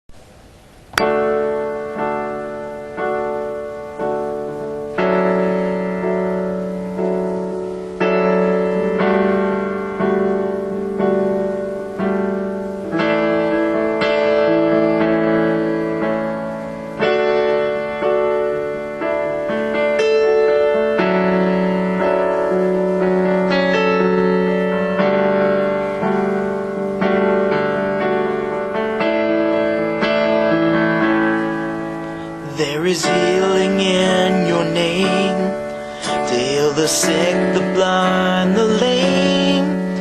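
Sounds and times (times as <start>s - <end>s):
solo piano playing slow chords: 0.1s - 40.0s.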